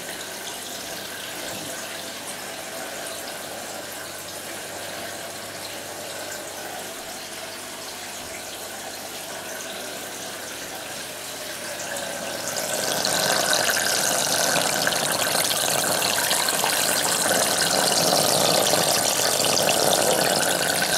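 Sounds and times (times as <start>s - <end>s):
water flowing through aquarium sump: 0.0s - 20.9s
water pouring into pipe: 0.0s - 20.9s.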